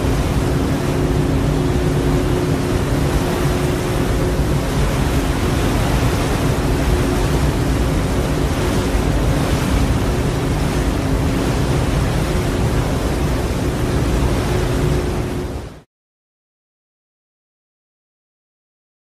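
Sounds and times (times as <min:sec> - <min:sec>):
boat engine drone: 0:00.0 - 0:15.9
wind and water rushing: 0:00.0 - 0:15.9.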